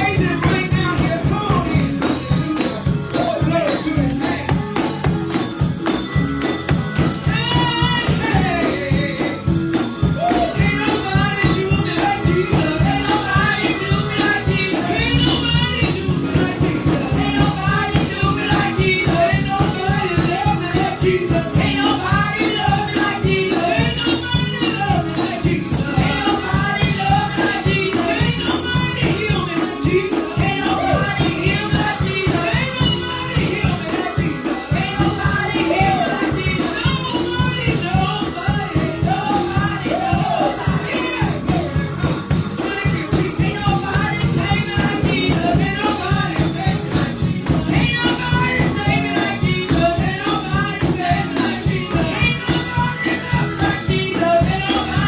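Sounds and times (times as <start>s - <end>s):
tambourine shaking: 0.0s - 55.0s
voices singing gospel music: 0.0s - 55.0s.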